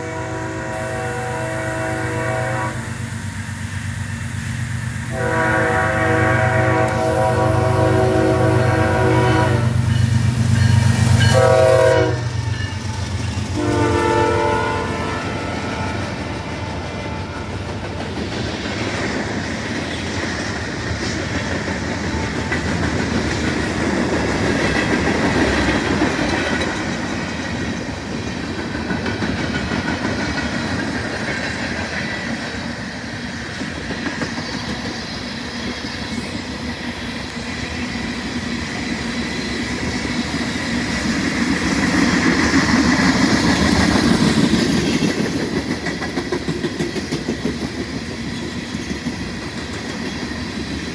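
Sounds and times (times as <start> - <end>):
freight train wheels clacking: 0.0 - 50.9.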